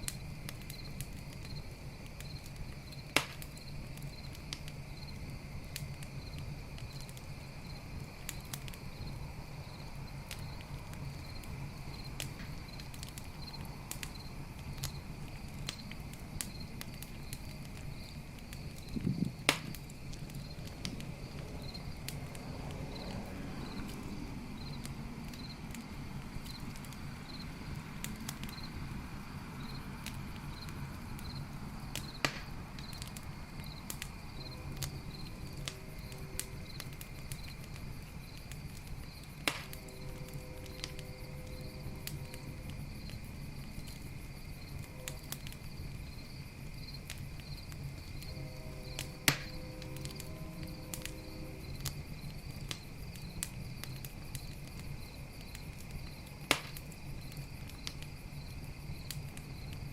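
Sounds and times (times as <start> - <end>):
crickets chirping: 0.0 - 59.9
wood fire crackling: 0.0 - 59.9.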